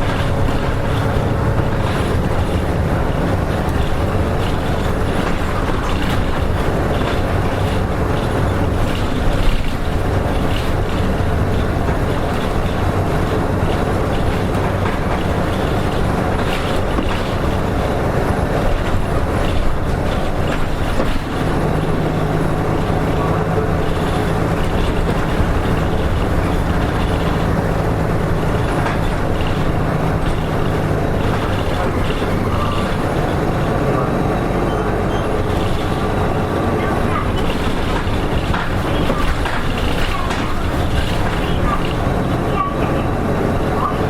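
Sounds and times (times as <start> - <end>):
bus diesel engine running: 0.0 - 44.0
road and body noise: 0.0 - 44.0.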